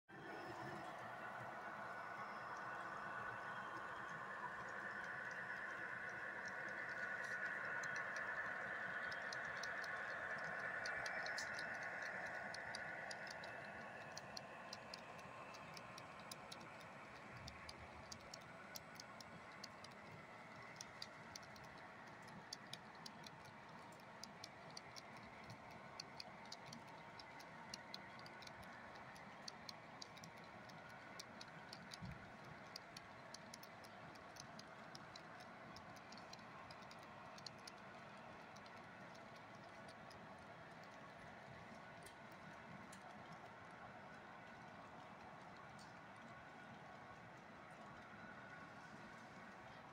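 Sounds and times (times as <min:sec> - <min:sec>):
model train wheels clicking: 0:00.2 - 0:49.9.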